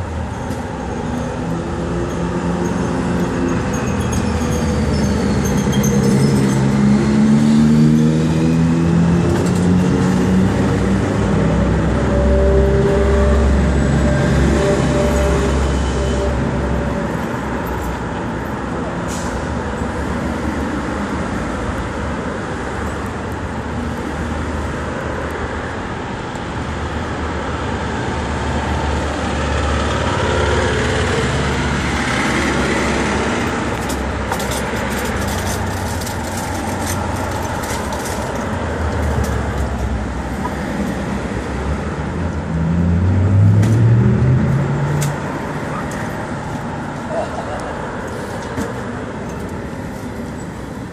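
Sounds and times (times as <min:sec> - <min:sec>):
city street traffic: 0:00.0 - 0:50.9.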